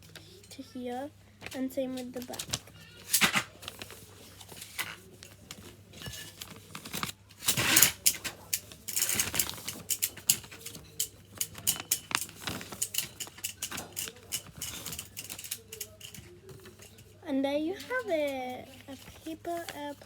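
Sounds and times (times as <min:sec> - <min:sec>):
paper rustling and crackling: 0:01.4 - 0:20.0.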